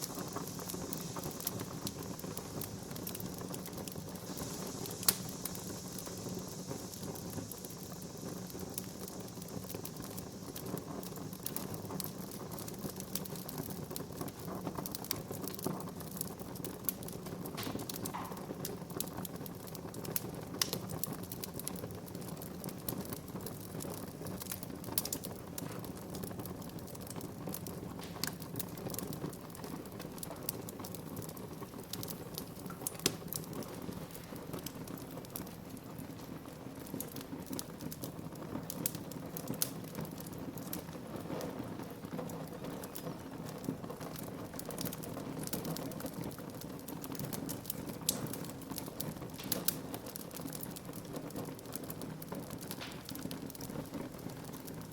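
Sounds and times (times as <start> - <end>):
low rush of burning: 0.0 - 54.9
wood fire popping and snapping: 0.0 - 54.9.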